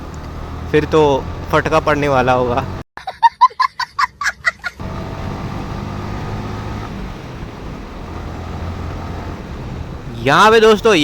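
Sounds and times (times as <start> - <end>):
motorcycle engine cruising: 0.0 - 2.8, 4.8 - 11.0
road and wind noise: 0.0 - 2.9, 3.7 - 11.0.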